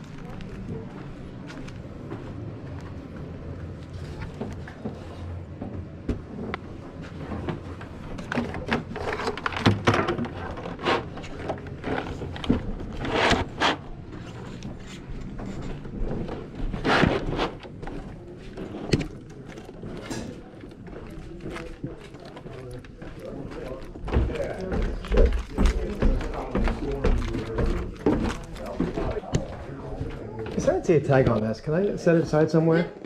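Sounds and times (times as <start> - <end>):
items being handled: 2.7 - 32.4.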